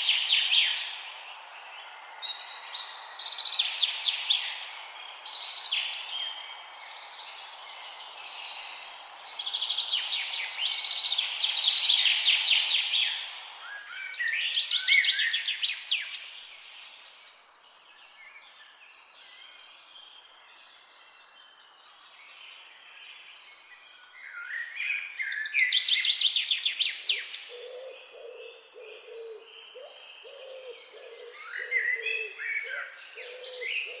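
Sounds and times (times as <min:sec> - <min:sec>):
birds chirping and trilling: 0:00.0 - 0:22.0, 0:24.2 - 0:34.0.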